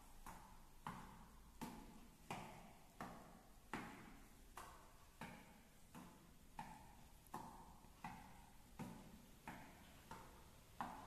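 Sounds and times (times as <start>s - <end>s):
juggling ball smacking into hand: 0.2s - 11.0s.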